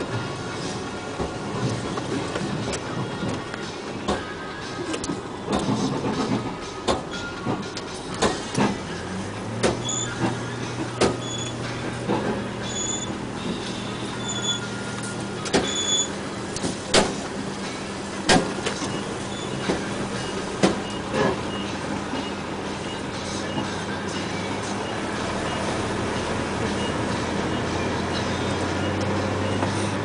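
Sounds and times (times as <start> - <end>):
distant diesel engine running: 0.0 - 30.0.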